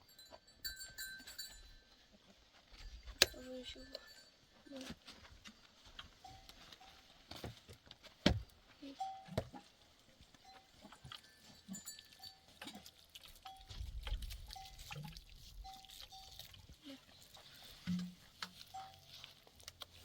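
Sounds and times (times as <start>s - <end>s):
animal bells ringing: 0.0s - 4.9s, 6.1s - 7.2s, 8.8s - 19.7s.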